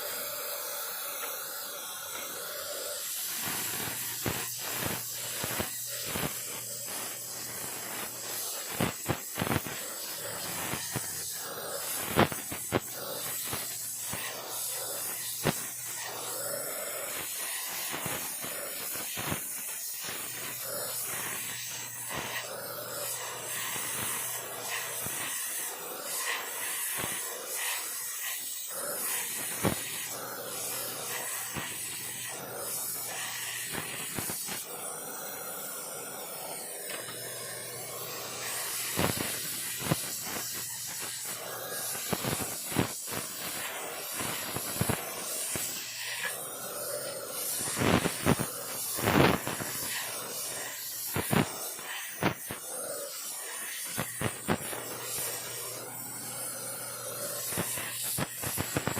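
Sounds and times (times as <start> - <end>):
welding torch flame hissing: 0.0 - 58.9.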